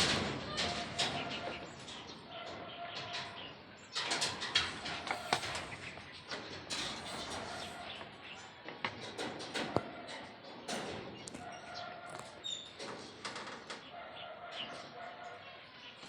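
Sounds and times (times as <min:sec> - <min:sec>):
construction knocks and clinks: 0:00.0 - 0:13.9.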